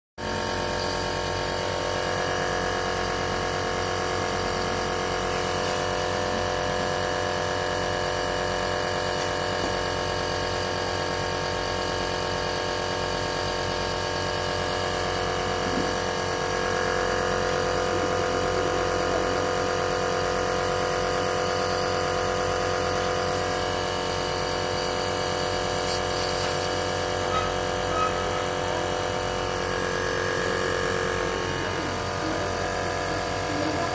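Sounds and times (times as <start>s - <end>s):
nebulizer motor humming: 0.2s - 33.9s.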